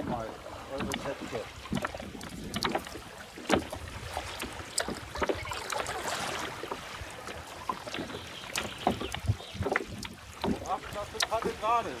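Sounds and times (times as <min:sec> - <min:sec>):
kayak paddles splashing water: 0:00.0 - 0:12.0
wash of water: 0:00.0 - 0:12.0.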